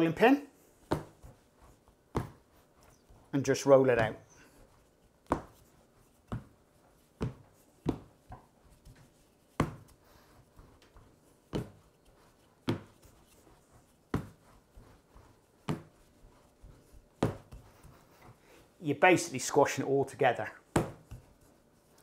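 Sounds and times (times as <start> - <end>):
rolling pin on pastry: 0.6 - 18.7, 20.7 - 22.0.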